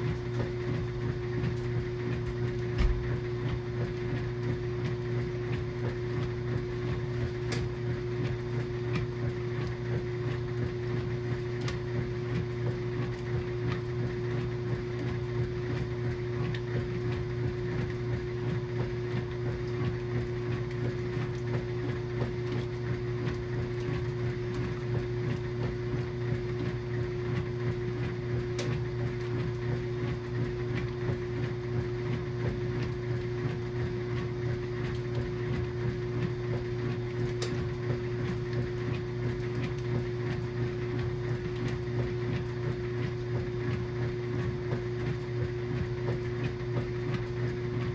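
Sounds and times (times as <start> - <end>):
washing machine motor hum: 0.0 - 47.9.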